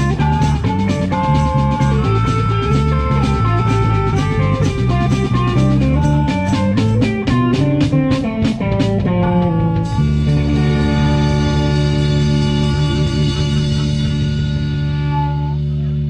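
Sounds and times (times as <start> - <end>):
bass line: 0.0 - 16.0
blues-rock band playing: 0.0 - 16.0
drum kit: 0.0 - 16.0
electric guitars: 0.0 - 16.0.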